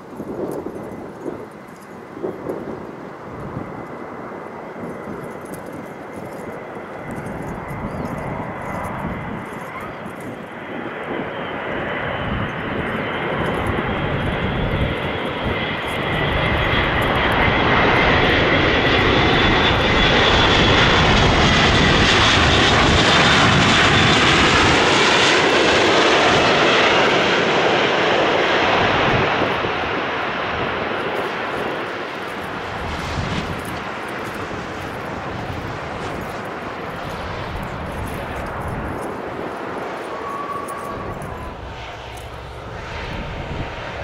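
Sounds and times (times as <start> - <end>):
propeller aircraft drone and whine: 0.0 - 44.0.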